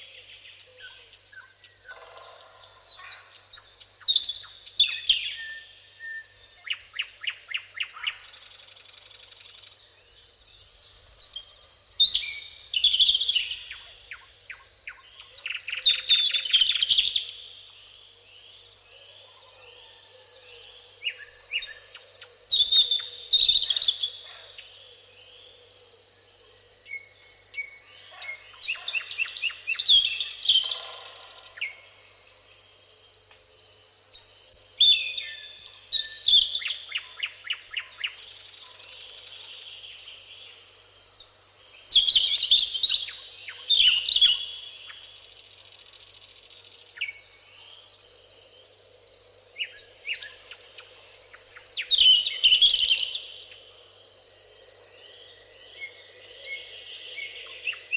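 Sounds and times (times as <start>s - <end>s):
high-pitched insect trill: 0.0s - 57.9s
songbirds trilling and chirping: 0.0s - 57.9s.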